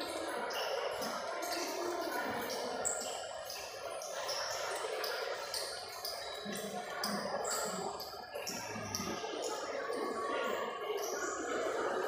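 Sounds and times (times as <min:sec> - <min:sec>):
murmur of people indoors: 0:00.0 - 0:12.0.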